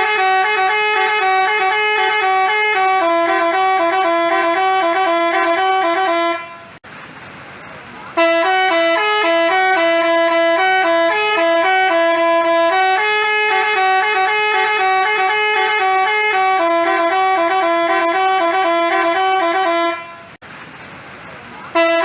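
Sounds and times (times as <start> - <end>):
bus air horn playing a tune: 0.0 - 6.8, 8.2 - 20.4, 21.7 - 22.0.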